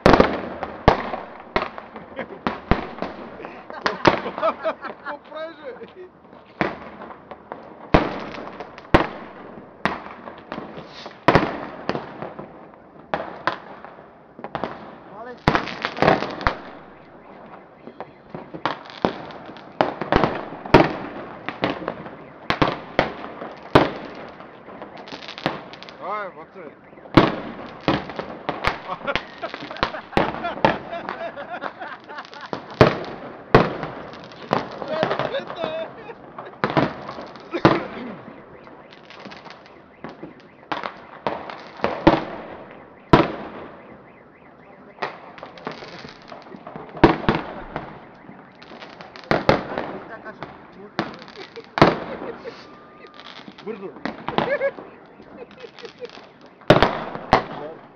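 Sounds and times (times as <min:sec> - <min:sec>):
fireworks bangs: 0:00.0 - 0:57.9.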